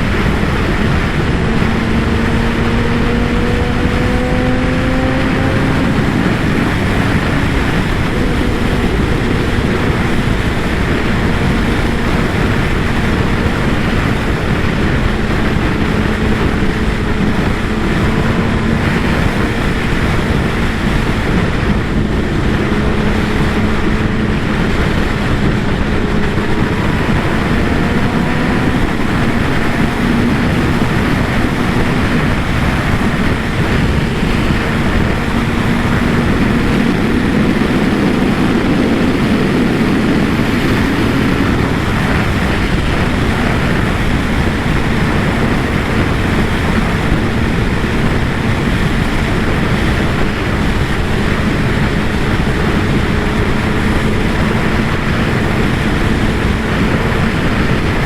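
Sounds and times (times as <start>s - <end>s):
heavy wind noise: 0.0s - 58.0s
motorcycle engine running: 0.0s - 58.0s.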